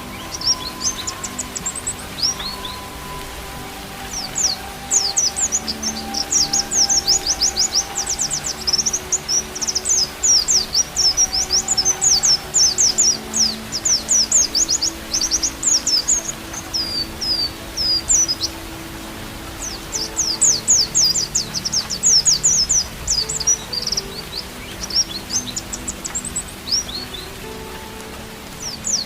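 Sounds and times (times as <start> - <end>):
bird twittering song: 0.0 - 29.0
faint low music tones: 0.0 - 29.0.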